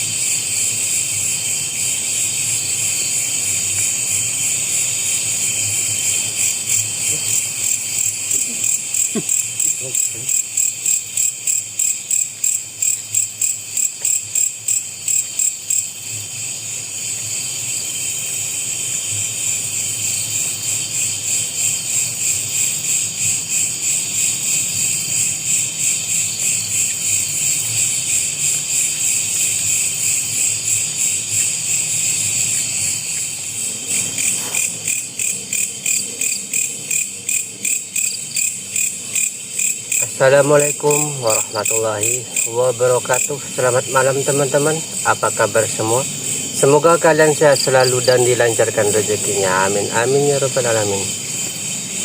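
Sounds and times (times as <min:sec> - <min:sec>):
night insects trilling: 0:00.0 - 0:52.0.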